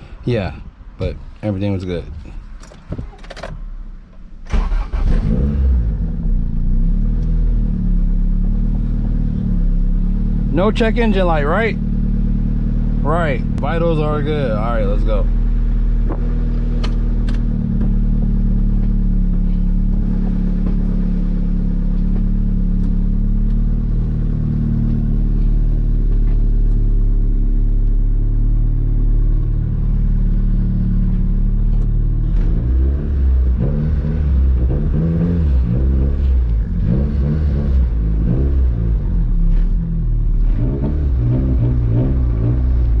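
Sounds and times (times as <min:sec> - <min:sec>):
car engine revving: 0:04.5 - 0:43.0.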